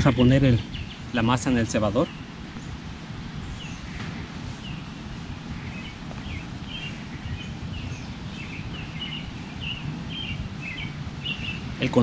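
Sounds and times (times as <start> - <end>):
low outdoor rumble: 0.0 - 12.0
songbirds chirping: 0.0 - 12.0.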